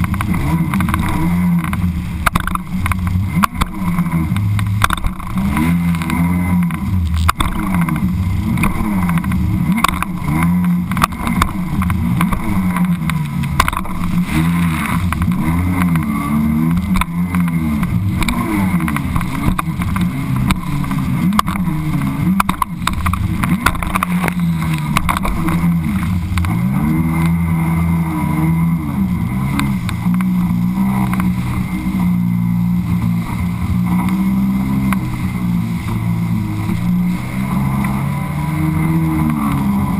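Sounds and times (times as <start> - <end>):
water slapping against hull: 0.0 - 39.9
watercraft engine revving: 0.0 - 39.9.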